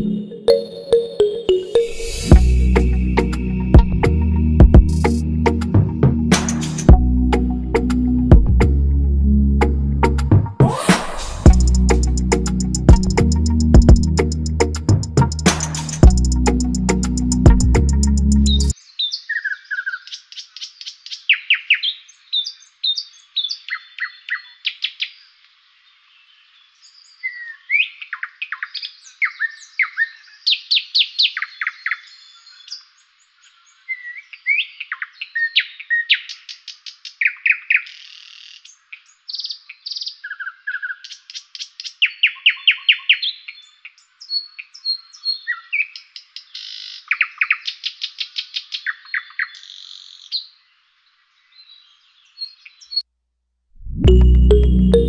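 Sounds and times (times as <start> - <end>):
songbird chirping and trilling: 0.0 - 5.7, 11.5 - 53.0.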